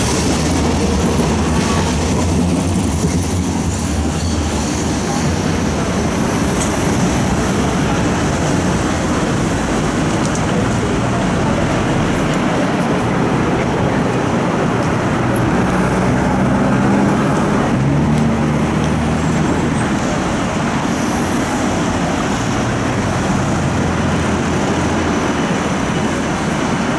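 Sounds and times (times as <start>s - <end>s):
car and road noise: 0.0s - 26.9s
vehicle engine hum: 5.0s - 26.9s.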